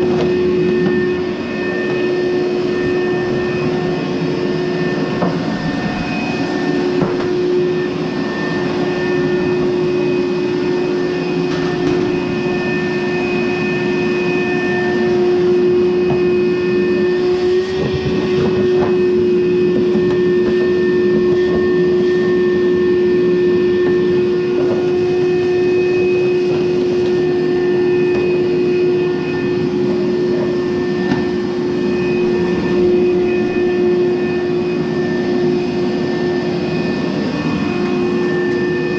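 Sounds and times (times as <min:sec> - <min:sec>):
clothes dryer humming: 0:00.0 - 0:38.9.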